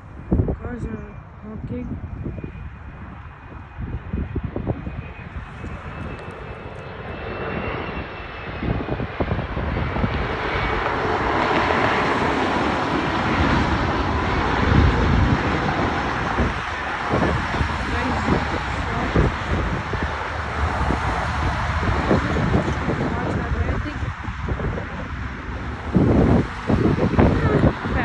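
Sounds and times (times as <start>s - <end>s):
jet engines roaring: 0.0s - 28.0s
wind buffeting microphone: 0.0s - 28.0s.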